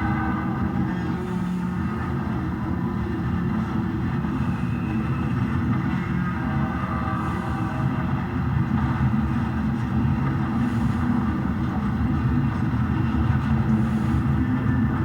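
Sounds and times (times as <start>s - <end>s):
model train rumbling: 0.0s - 15.0s.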